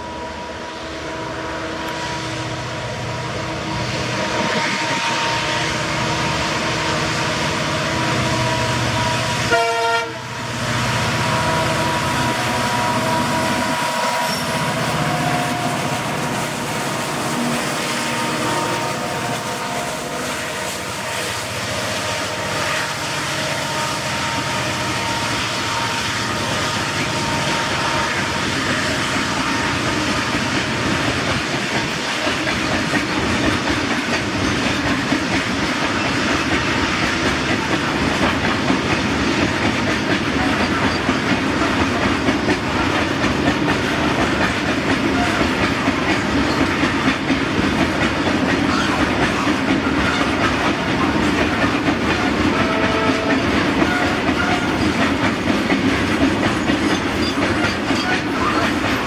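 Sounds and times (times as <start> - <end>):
steel wheels clattering over rail: 10.4 - 59.0.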